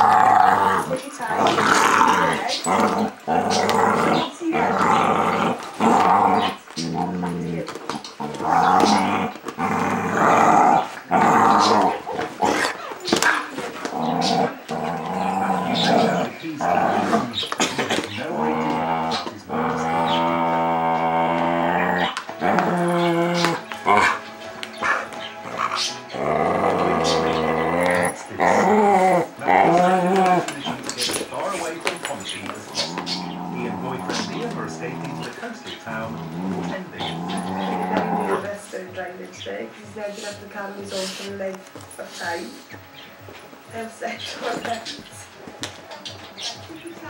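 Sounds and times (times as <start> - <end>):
dogs growling while play-fighting: 0.0 - 39.3, 40.0 - 45.1.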